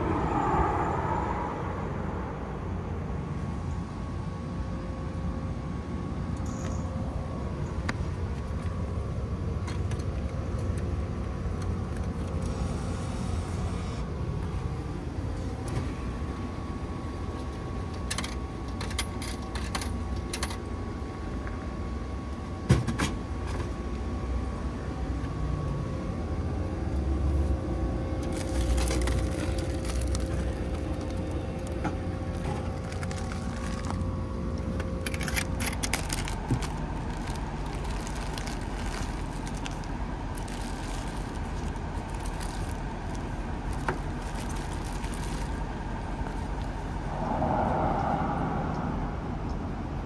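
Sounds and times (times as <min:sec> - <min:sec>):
faint hum: 0:00.0 - 0:50.0
low outdoor rumble: 0:00.0 - 0:50.0.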